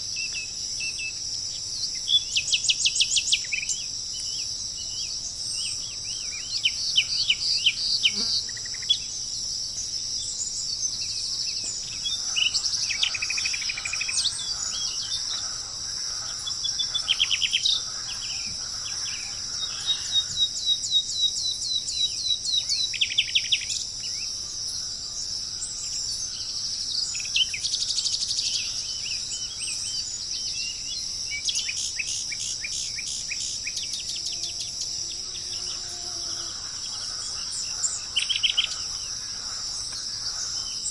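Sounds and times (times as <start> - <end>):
high-pitched insect drone: 0.0 - 40.9
birds chirping: 1.6 - 40.9.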